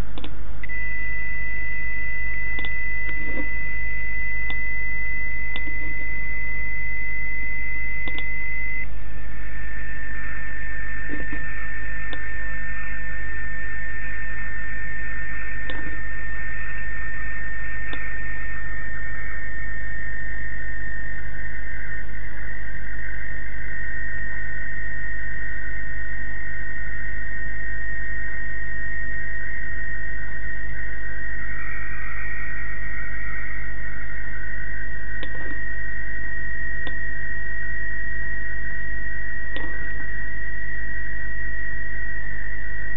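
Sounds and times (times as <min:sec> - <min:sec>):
receiver hiss: 0:00.0 - 0:42.9
steady low hum: 0:00.0 - 0:42.9
radio whistle tone: 0:00.6 - 0:42.9.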